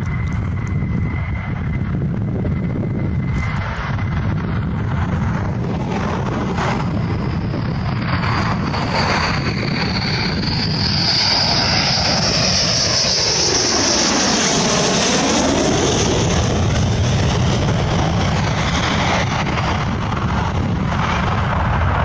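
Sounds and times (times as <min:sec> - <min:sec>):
fighter jet engines whining: 0:00.0 - 0:22.0.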